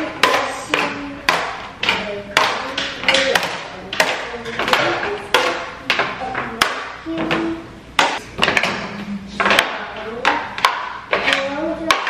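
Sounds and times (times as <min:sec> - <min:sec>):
plastic plates clattering: 0:00.0 - 0:12.0.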